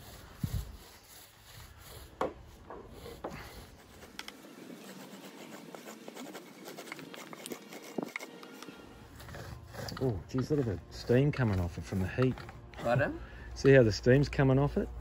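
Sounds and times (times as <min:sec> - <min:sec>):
paintbrush brushing paint: 0:00.0 - 0:13.0.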